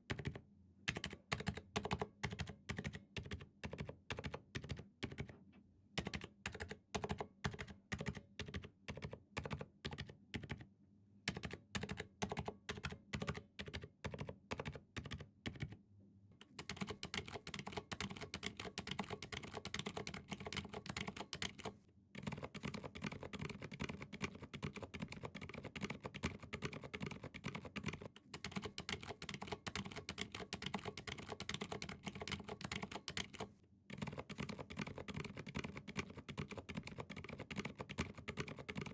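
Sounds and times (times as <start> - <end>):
typing on mechanical keyboard: 0.1 - 5.3, 6.0 - 10.7, 11.3 - 15.8, 16.4 - 38.9.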